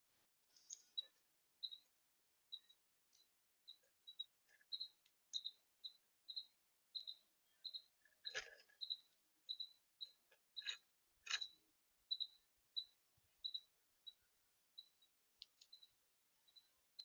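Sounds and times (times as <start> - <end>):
small bird chip notes: 0.5 - 17.0.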